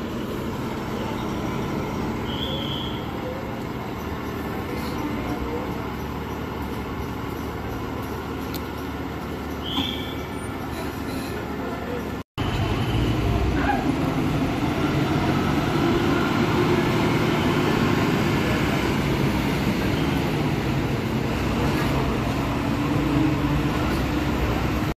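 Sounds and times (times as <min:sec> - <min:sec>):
bus engines droning: 0:00.0 - 0:25.0.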